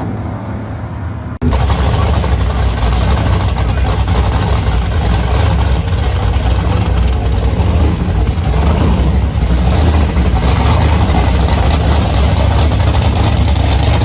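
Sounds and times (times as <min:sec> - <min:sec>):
hot rod engine running: 0:01.4 - 0:14.0.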